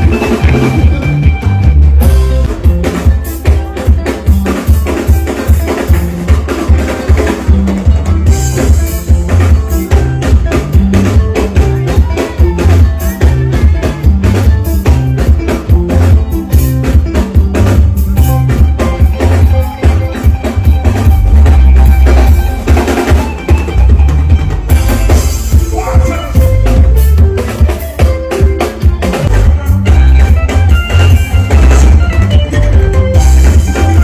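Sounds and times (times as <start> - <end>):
loud music with heavy bass: 0.0 - 34.0.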